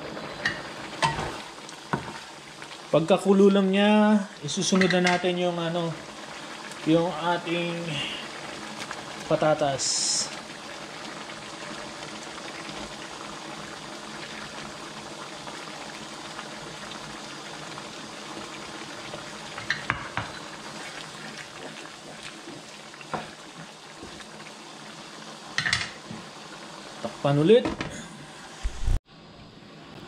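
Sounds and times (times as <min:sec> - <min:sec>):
stew bubbling in a pan: 0:00.0 - 0:28.9.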